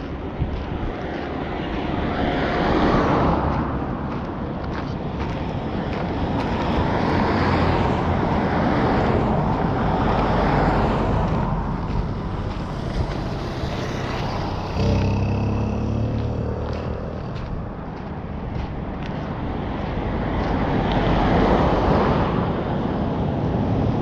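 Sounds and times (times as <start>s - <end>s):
car passing: 0.0s - 24.0s
vehicle engine: 0.0s - 24.0s.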